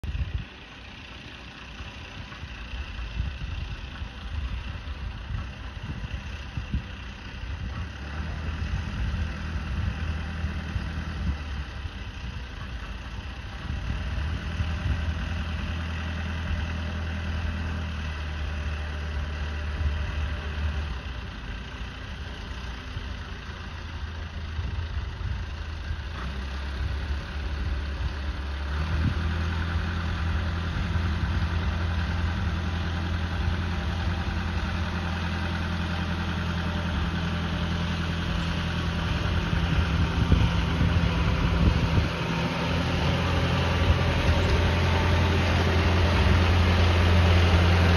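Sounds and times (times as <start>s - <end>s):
diesel locomotive engine running: 0.0s - 47.9s.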